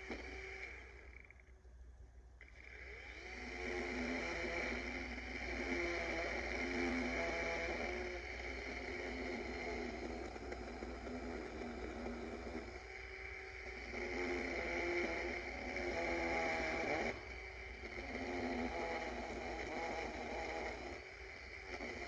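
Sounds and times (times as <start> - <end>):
chainsaw cutting wood: 0.0 - 1.5, 2.4 - 22.0.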